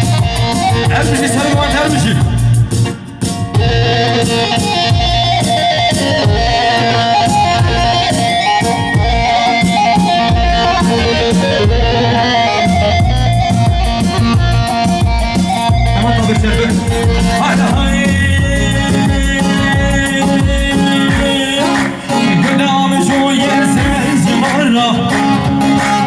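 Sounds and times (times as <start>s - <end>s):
loud dance music: 0.0s - 26.0s
steady drum beat: 0.0s - 26.0s.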